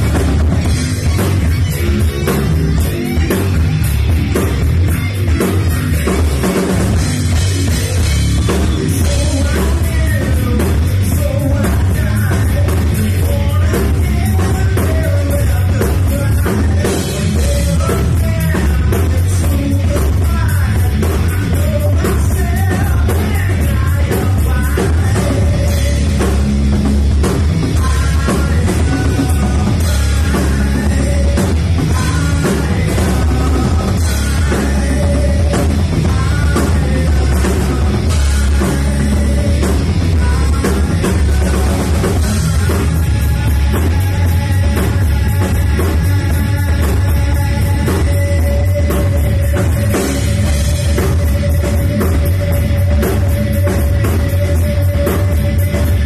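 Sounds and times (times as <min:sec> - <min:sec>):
person singing: 0:00.0 - 0:26.5, 0:27.2 - 0:56.0
rock band playing live: 0:00.0 - 0:56.0.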